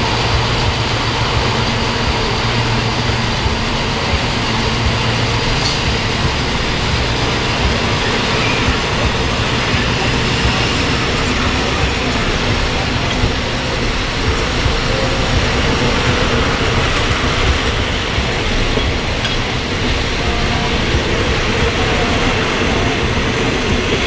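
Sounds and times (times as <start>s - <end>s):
train rumble and rail noise: 0.0s - 24.0s.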